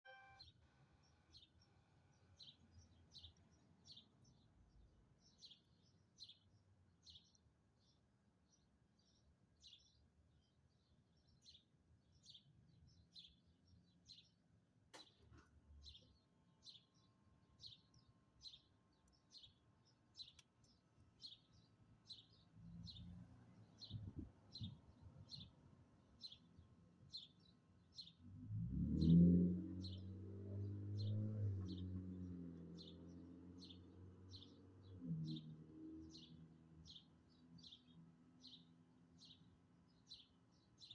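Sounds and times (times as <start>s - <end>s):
bird chirping: 0.0s - 14.4s, 15.0s - 28.2s, 29.0s - 40.9s.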